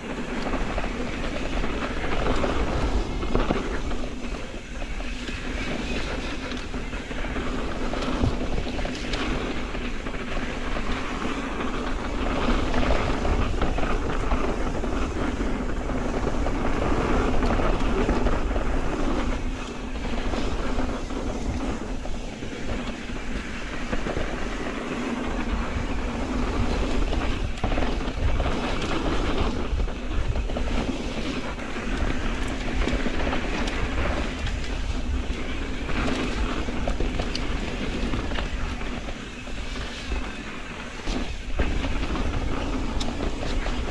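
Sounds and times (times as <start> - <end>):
bike rattling over bumps: 0.0 - 43.9
bike tyres rolling on dirt: 0.0 - 43.9
wind noise on microphone: 0.0 - 43.9.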